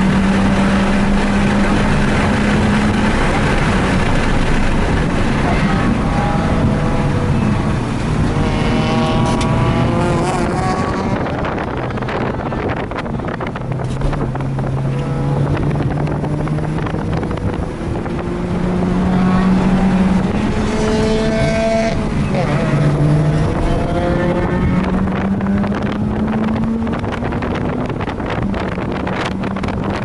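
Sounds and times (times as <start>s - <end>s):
rotary engine accelerating: 0.0s - 30.0s
wind buffeting microphone: 0.0s - 30.0s.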